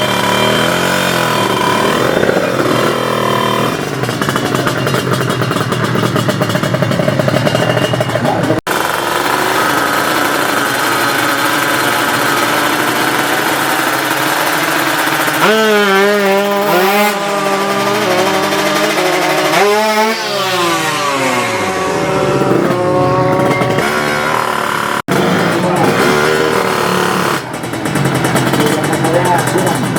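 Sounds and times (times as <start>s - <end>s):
engine revving: 0.0s - 29.9s
two-stroke engines running: 0.0s - 29.9s.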